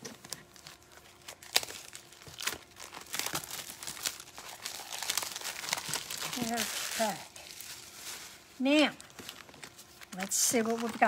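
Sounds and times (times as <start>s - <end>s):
cellophane crinkling: 0.0s - 11.0s.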